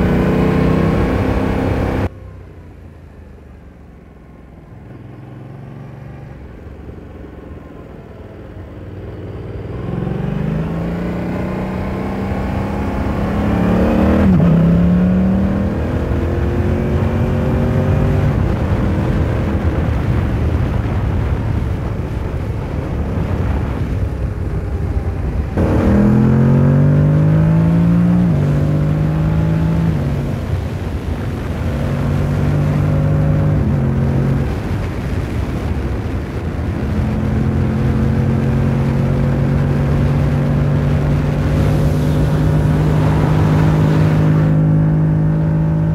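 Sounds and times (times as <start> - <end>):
motorcycle engine accelerating: 0.0 - 2.4, 4.6 - 45.9
wind and road noise: 0.0 - 45.9.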